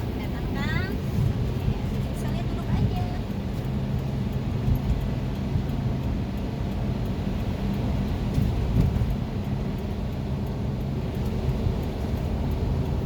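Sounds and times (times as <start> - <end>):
car engine rumbling inside cabin: 0.0 - 13.0.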